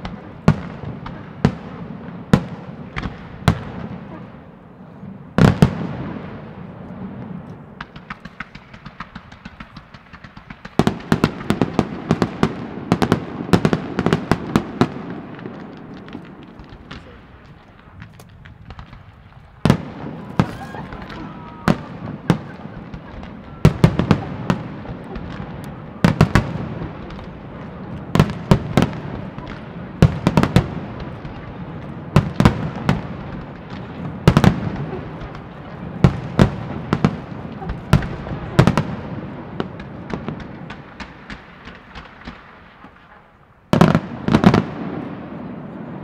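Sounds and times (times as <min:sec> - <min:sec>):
firework bangs: 0:00.0 - 0:46.0
firework crackling: 0:00.0 - 0:46.0.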